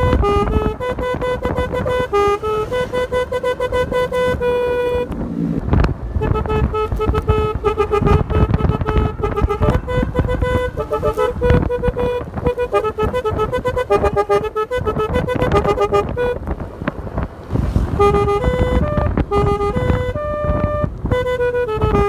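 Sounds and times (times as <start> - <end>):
horn playing a tune: 0.0 - 16.5, 17.8 - 22.0
low engine and road noise: 0.0 - 22.0.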